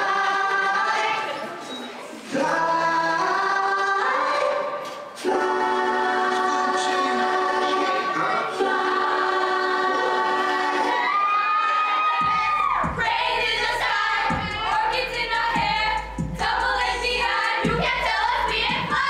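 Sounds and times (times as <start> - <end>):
choir singing chords: 0.0 - 11.5, 12.9 - 19.0.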